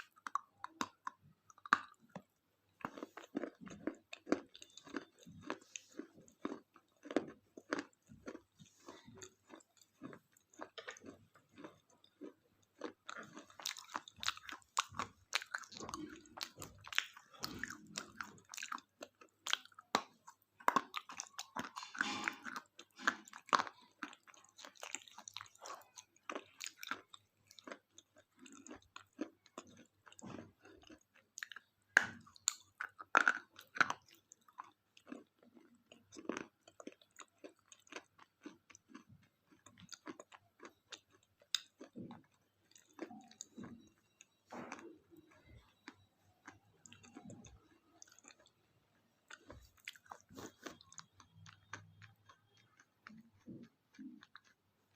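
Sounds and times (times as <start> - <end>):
chewing crunchy chocolate wafer: 0.0 - 54.9.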